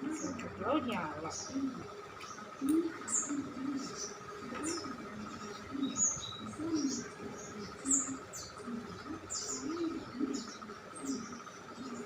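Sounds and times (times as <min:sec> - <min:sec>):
birds chirping: 0:00.0 - 0:12.0
faint steady high hum: 0:00.0 - 0:12.0
low cooing: 0:01.3 - 0:12.0.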